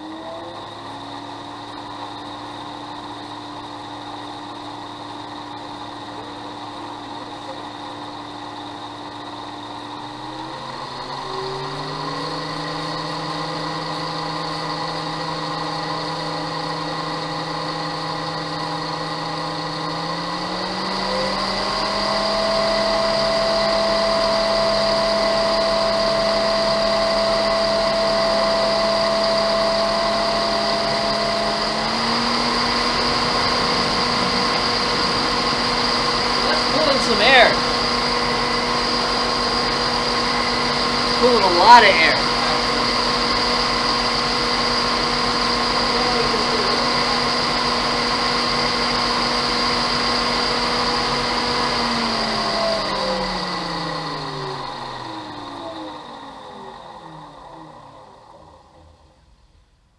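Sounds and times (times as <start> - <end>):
electric cooling fans whining: 0.0 - 59.6.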